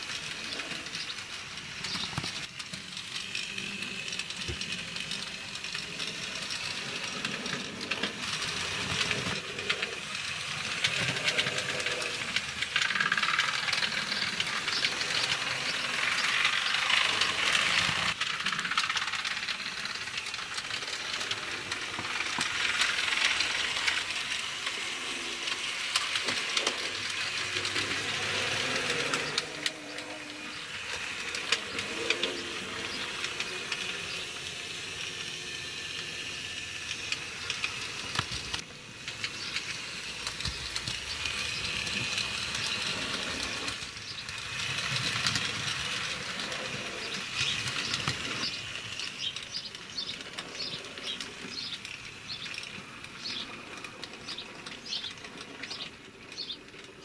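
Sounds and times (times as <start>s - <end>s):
model train wheels hissing: 0.0s - 57.0s
small clicks: 0.0s - 57.0s.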